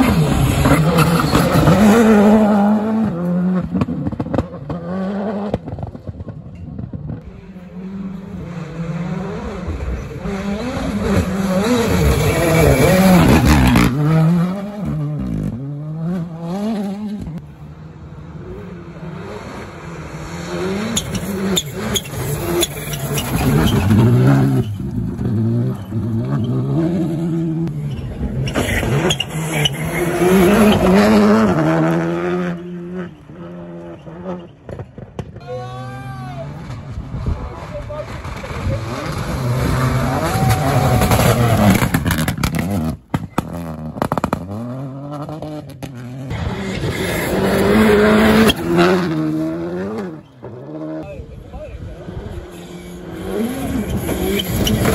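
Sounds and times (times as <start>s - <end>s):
rally cars passing: 0.0s - 54.9s.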